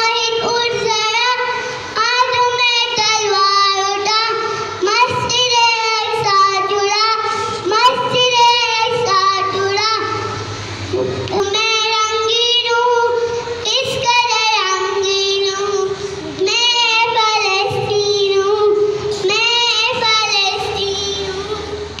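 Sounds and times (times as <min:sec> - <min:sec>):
girl singing into a microphone: 0:00.0 - 0:10.5, 0:11.3 - 0:22.0.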